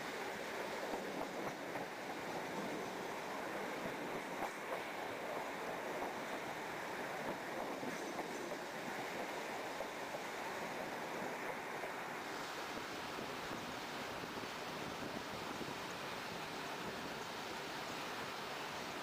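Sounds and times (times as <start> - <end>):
train wheels rushing on rail: 0.0 - 19.0.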